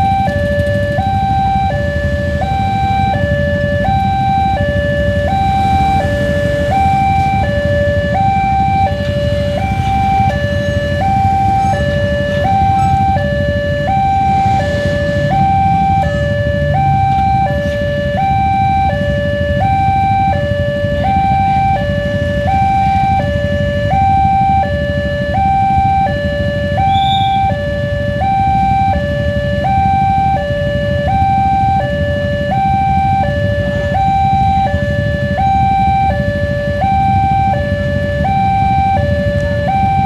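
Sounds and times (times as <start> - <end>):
road traffic rumbling: 0.0 - 40.0
two-tone crossing alarm: 0.0 - 40.0.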